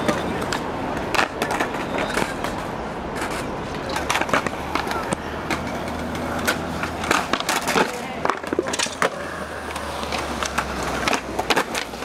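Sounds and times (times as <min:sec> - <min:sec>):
skateboard clacks and knocks: 0:00.0 - 0:12.0
skateboard wheels rolling on pavement: 0:00.0 - 0:12.0.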